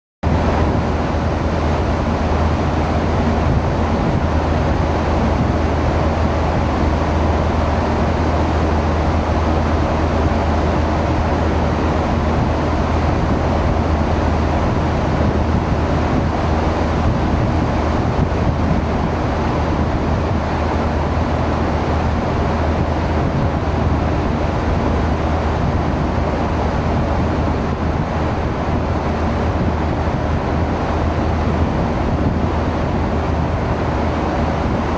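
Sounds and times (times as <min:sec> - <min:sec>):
constant rushing noise: 0:00.3 - 0:34.9
tugboat engines droning: 0:00.3 - 0:34.9.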